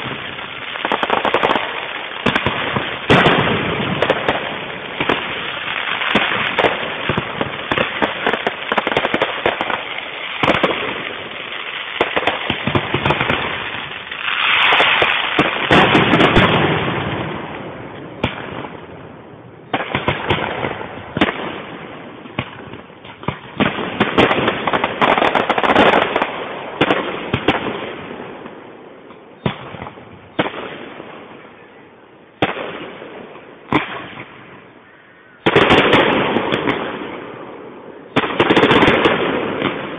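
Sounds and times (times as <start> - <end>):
fireworks bursting with crackling: 0.0 - 39.9.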